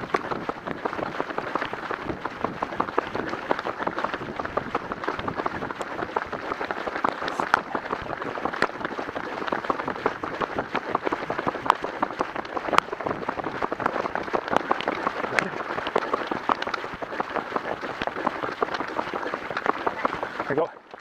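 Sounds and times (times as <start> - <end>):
crackling at microphone: 0.0 - 21.0.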